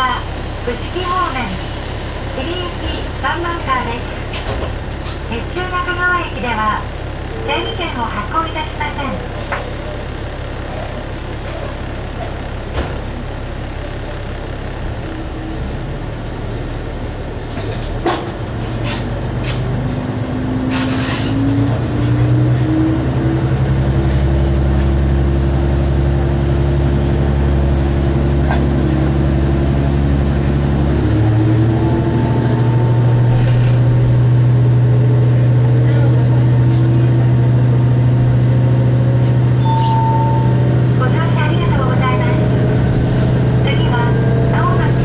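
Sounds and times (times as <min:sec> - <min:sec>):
diesel engine accelerating: 0:00.0 - 0:45.0.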